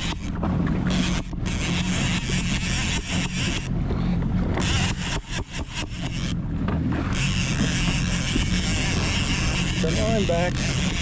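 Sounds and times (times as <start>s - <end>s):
jet ski engine idling: 0.0s - 11.0s
wind and water hissing: 0.0s - 11.0s.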